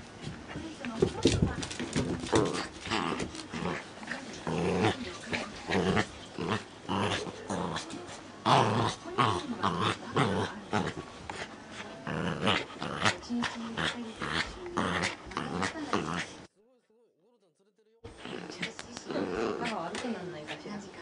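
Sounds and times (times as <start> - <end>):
puppy growling: 0.5 - 16.5, 18.1 - 21.0.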